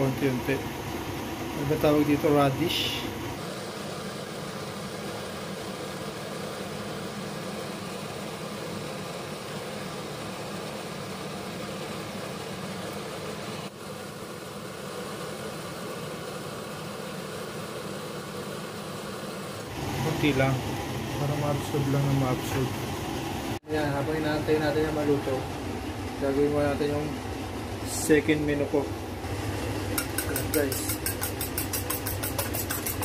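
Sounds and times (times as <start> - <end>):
kitchen background hum and hiss: 0.0 - 33.0.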